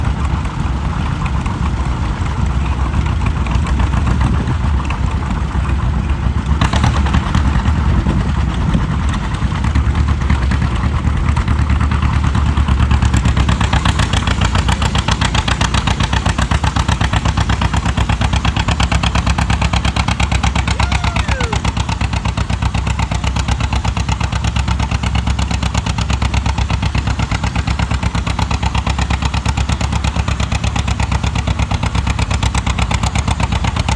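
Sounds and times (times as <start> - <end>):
tractor engine running loud: 0.0 - 33.9.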